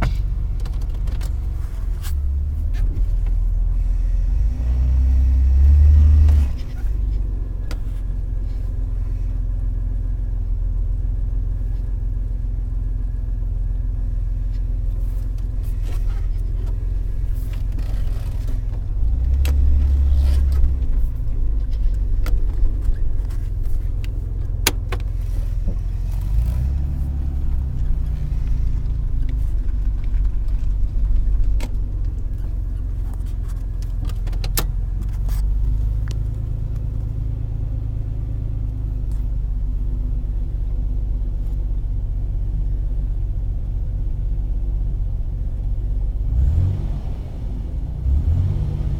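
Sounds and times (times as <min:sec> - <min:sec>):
car engine idling: 0:00.0 - 0:46.7.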